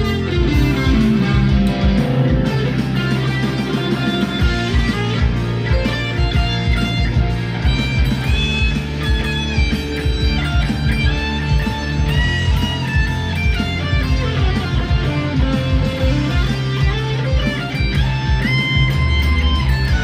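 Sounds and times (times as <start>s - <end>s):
distorted electric guitar: 0.0s - 20.0s.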